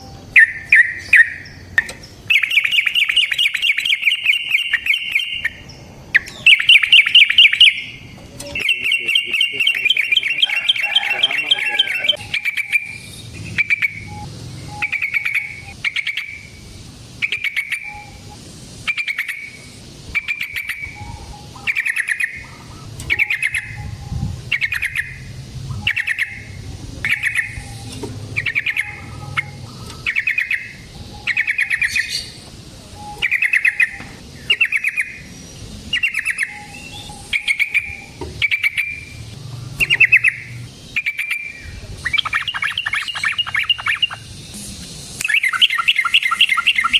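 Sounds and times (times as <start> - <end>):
bulbul calling: 0.0 - 44.4, 45.2 - 46.9.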